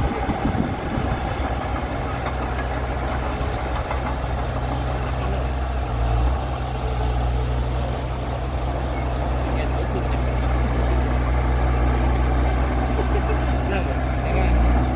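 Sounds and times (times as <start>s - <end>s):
heavy machine engine running: 0.0s - 14.9s.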